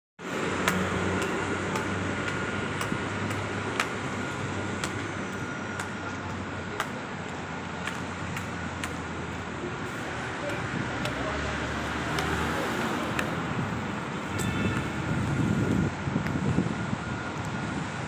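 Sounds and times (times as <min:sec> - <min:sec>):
city street traffic: 0:00.2 - 0:18.0.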